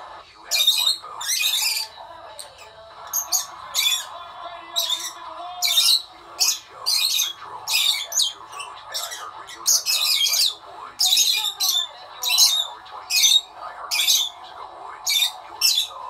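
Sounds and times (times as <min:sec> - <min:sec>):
lovebirds squawking and chirping: 0:00.0 - 0:16.0.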